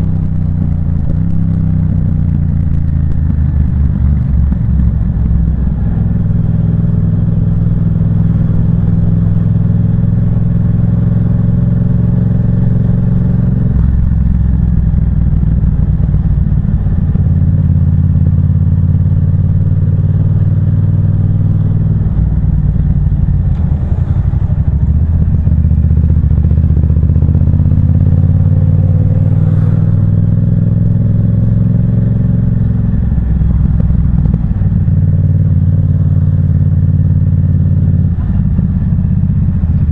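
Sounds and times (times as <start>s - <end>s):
motorcycle engine loud exhaust: 0.0s - 39.9s.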